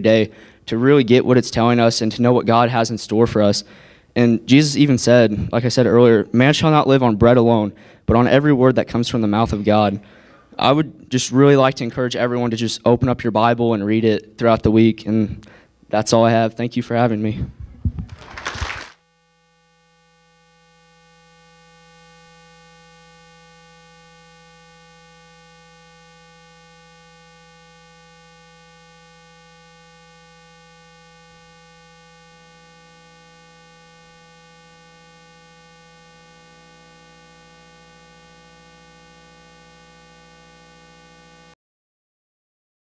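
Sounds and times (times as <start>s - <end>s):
steady electrical hum: 0.0s - 41.6s.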